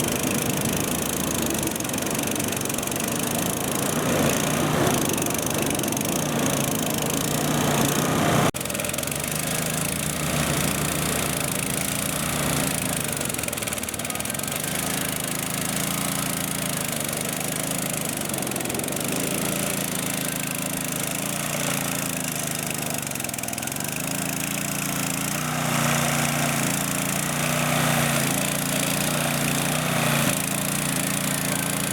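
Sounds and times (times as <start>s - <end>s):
small engine running: 0.0s - 31.9s.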